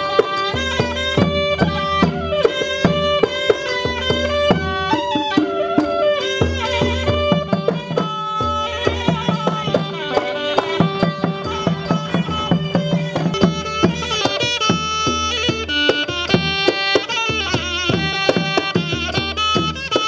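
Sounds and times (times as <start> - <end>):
hand drum beat: 0.0 - 20.0
sliding melody line: 0.0 - 20.0.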